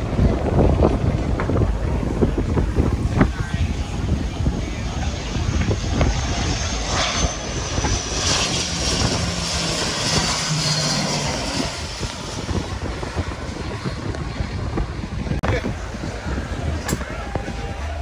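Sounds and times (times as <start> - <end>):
airplane engine whine: 0.0 - 18.0
low engine rumble: 0.0 - 18.0.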